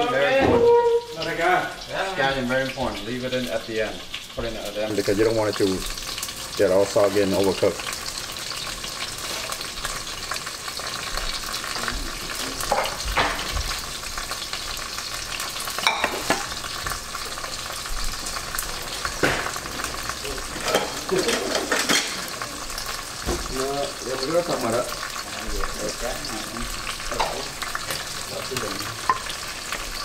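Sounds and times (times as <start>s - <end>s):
aromatics sizzling in oil: 0.0s - 30.0s.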